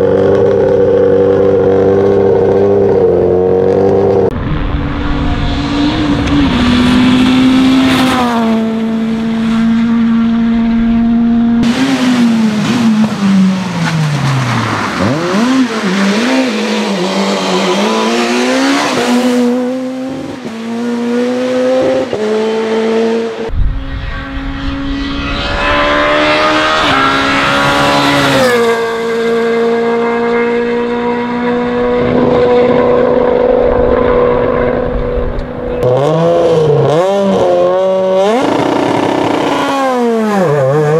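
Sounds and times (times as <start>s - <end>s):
rally car engines at high revs: 0.0s - 40.9s.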